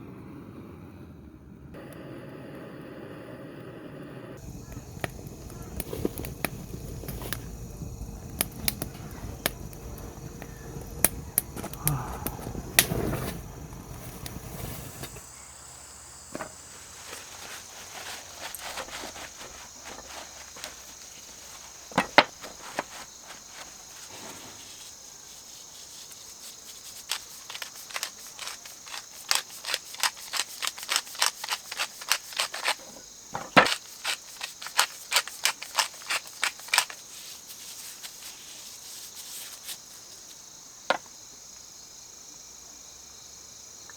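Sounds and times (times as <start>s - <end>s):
insects chirring: 1.8s - 43.9s.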